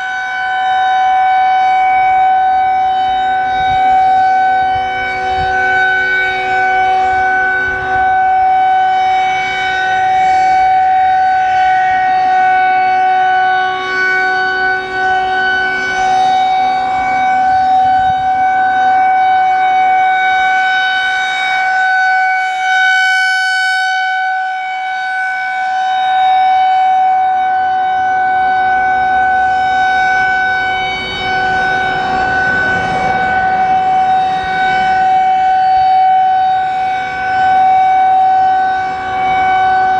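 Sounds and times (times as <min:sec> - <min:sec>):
rotating warning siren tone: 0:00.0 - 0:39.9.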